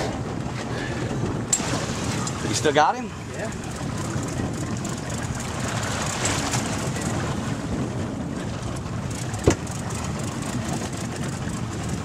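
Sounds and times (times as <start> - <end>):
water sloshing around boat: 0.0 - 12.0
wind buffeting microphone: 0.0 - 12.0.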